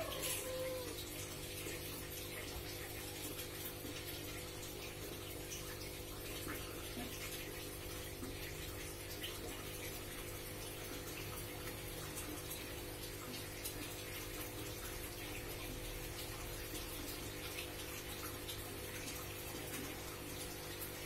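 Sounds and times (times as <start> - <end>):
aquarium pump hum: 0.0 - 21.0.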